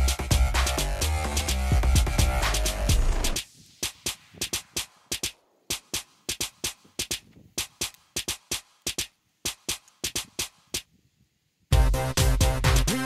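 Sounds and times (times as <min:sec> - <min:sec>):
drum machine beat of dry clicks: 0:00.0 - 0:10.9.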